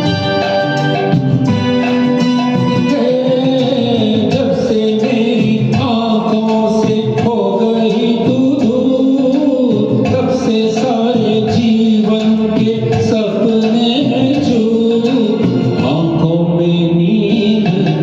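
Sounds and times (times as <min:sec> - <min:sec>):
karaoke backing track: 0:00.0 - 0:18.0
man singing: 0:02.5 - 0:18.0.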